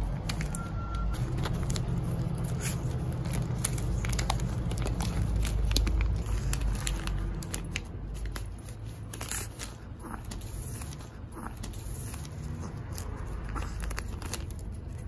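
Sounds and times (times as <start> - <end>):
dog crinkling plastic bag: 0.0 - 15.0.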